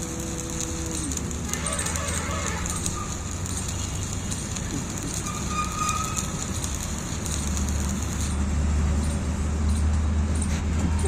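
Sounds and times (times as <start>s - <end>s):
welding arc crackling: 0.0s - 9.7s.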